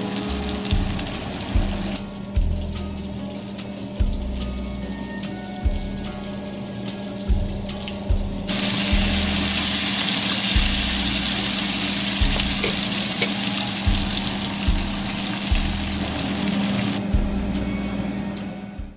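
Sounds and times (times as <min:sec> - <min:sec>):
food sizzling in a pan: 0:00.0 - 0:17.0
background music with bass beat: 0:00.2 - 0:18.9.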